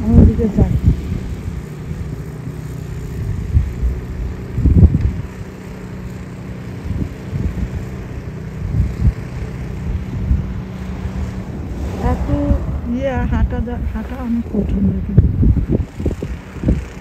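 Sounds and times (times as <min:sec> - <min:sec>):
snow blower engine running: 0:00.0 - 0:17.0
wind rumbling on microphone: 0:00.0 - 0:17.0.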